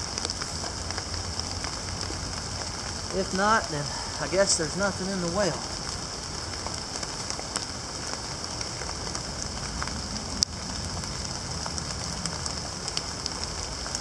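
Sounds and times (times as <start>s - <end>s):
rain on leaf litter: 0.0s - 14.0s.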